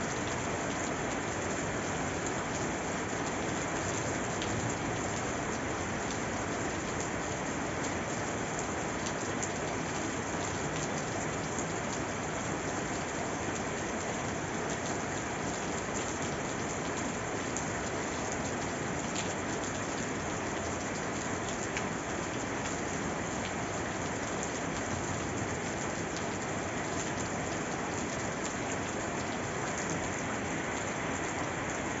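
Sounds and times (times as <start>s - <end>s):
rain pattering on a surface: 0.0s - 32.0s.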